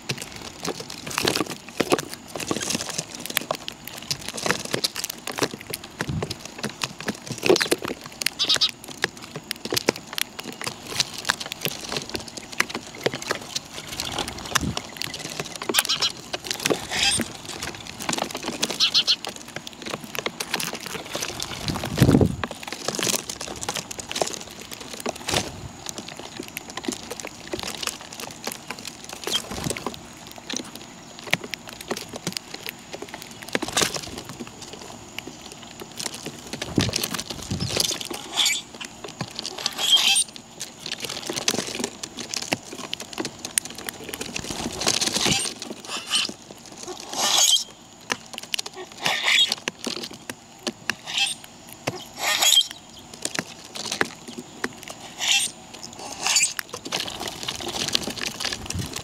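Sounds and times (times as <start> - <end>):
birds pecking taps and rustles: 0.0 - 59.0.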